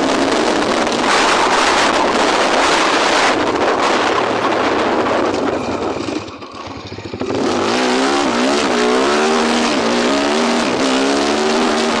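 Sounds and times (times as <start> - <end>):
engine running at high revs: 0.0 - 12.0.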